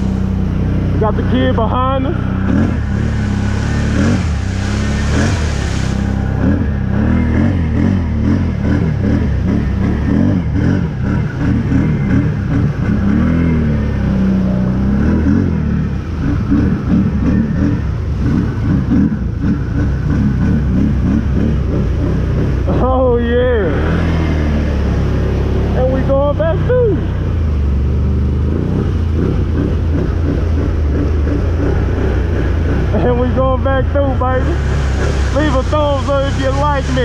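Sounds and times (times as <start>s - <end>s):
engine revving: 0.0s - 37.0s
vehicle driving through water: 0.0s - 37.0s.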